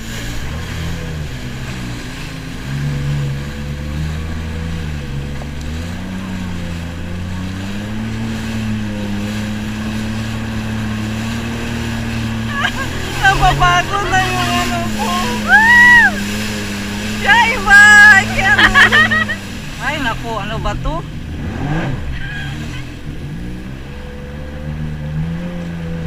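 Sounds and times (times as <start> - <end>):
jet ski engine: 0.0 - 26.0.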